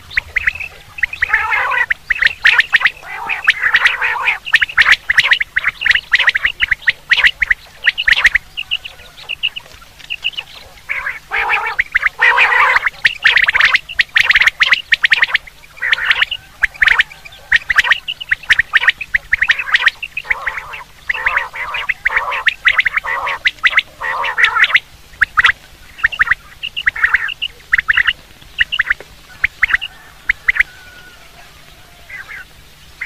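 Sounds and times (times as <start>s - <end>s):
faint low hum: 0.0s - 33.0s
quail calling: 0.0s - 33.0s.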